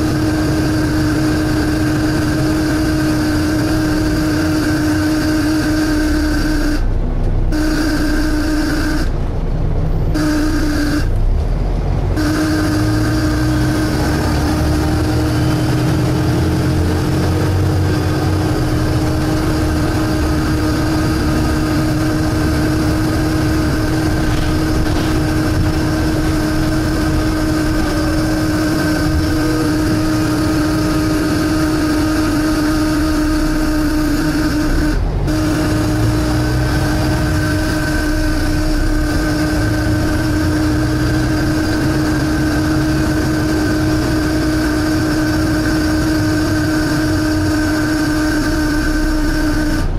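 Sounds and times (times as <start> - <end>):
bus diesel engine rumble: 0.0 - 49.9
steady whining tone: 0.0 - 49.9.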